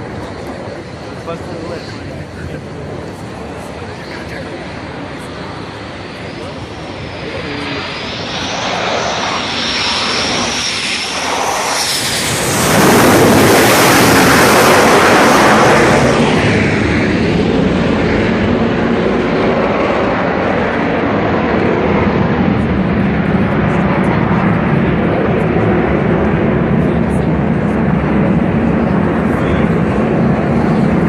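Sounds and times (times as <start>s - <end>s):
jet fighter passing overhead: 0.0s - 31.0s.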